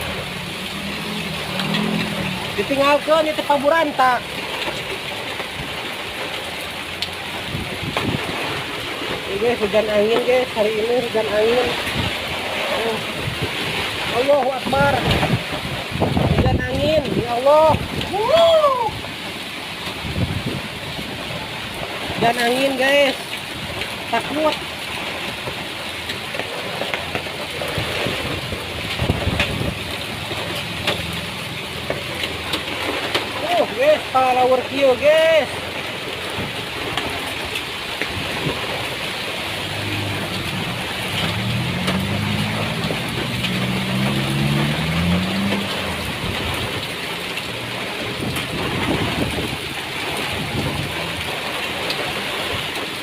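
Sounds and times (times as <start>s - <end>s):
hailstones ticking: 0.0s - 53.0s
heavy rain: 0.0s - 53.0s
wind gusts rumbling: 0.0s - 53.0s.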